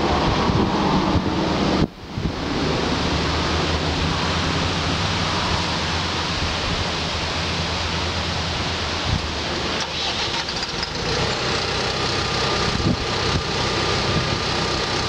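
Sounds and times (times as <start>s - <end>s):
wind noise on microphone: 0.0s - 15.0s
diesel engine idling: 2.6s - 15.0s.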